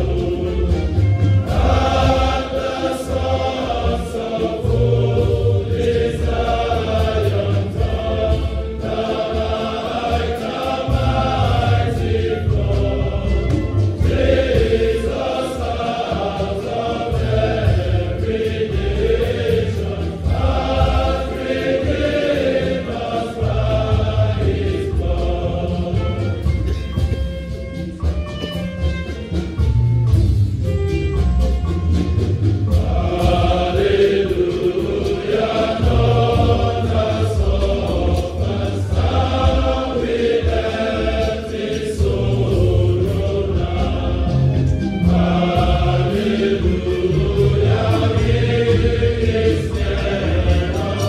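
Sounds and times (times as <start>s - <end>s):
male choir singing a hymn: 0.0s - 26.8s, 32.7s - 51.0s.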